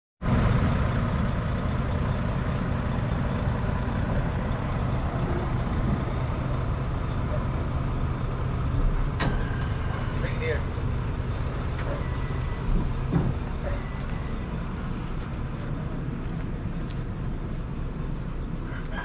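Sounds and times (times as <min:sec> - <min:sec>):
truck engine rumbling: 0:00.2 - 0:19.0.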